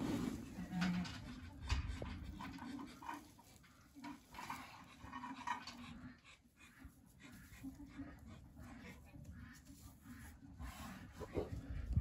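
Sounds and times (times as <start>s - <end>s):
dogs panting: 1.3s - 12.0s.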